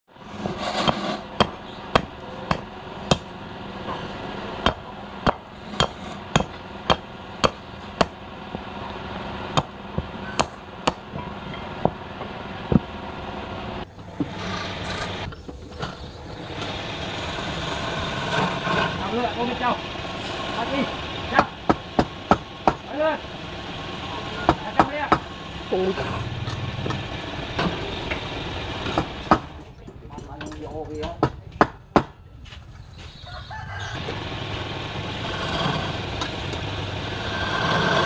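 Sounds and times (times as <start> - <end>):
steady machine hum: 0.2 - 30.8, 33.7 - 38.0.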